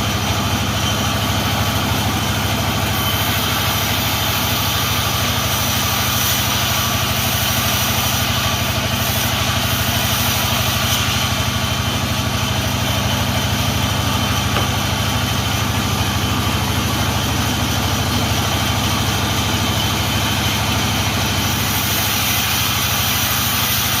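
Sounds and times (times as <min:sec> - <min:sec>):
sawing machine engine running: 0:00.0 - 0:24.0.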